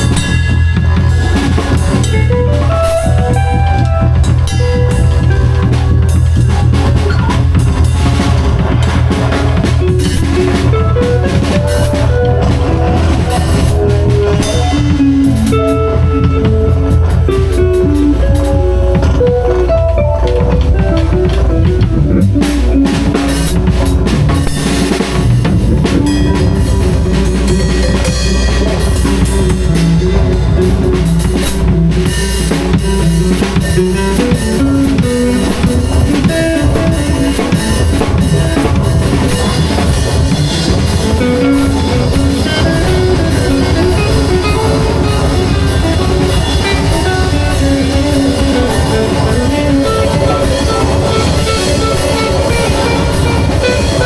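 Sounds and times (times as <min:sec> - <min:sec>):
bass guitar notes: 0:00.0 - 0:54.0
drum kit playing busy beat: 0:00.0 - 0:54.0
electric guitar notes: 0:00.0 - 0:54.0.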